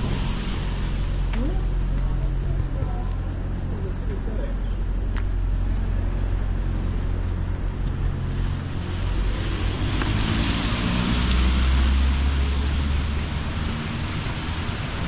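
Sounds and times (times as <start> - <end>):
vehicle engine rumble passing: 0.0 - 15.0.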